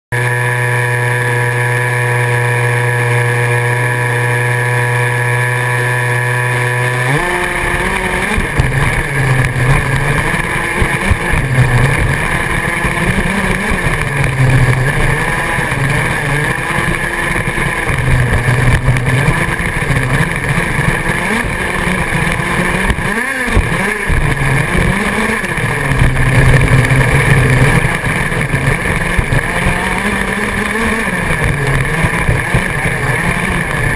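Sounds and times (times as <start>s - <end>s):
rough rumble over dirt: 0.1s - 33.9s
toy car motor humming: 0.2s - 33.9s.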